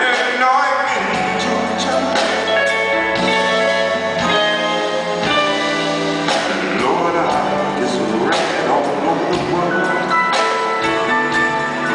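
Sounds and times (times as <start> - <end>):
keyboard chords: 0.0 - 11.9
electric guitar: 0.9 - 11.9.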